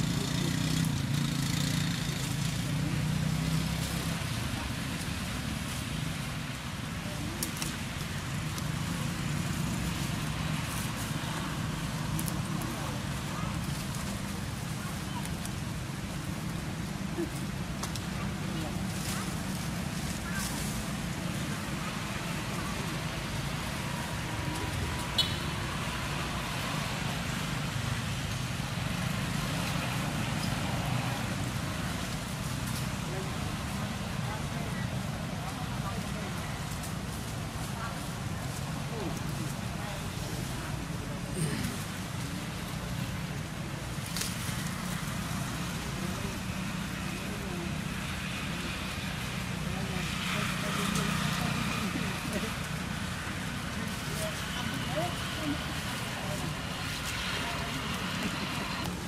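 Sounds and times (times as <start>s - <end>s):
low rumble of traffic or engine: 0.0s - 59.0s.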